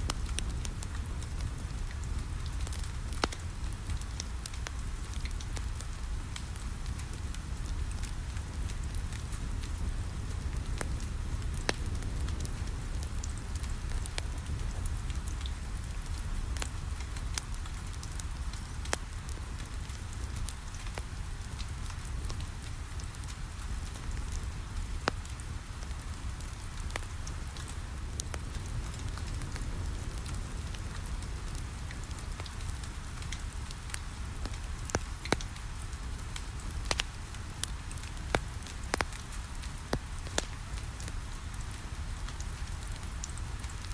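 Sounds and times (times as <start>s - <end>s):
rain pattering on a window: 0.0s - 43.9s
wood fire crackling and popping: 0.0s - 43.9s.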